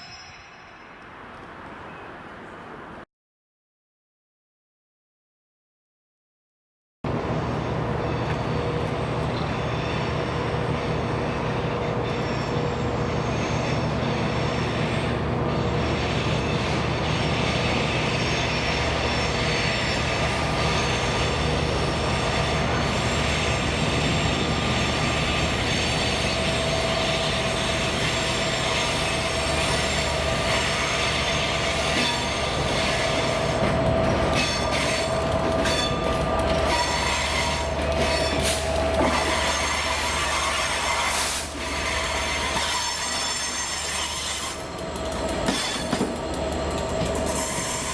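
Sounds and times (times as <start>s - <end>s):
diesel locomotive engine running: 7.1s - 47.9s
wheels squealing on rails: 7.1s - 47.9s.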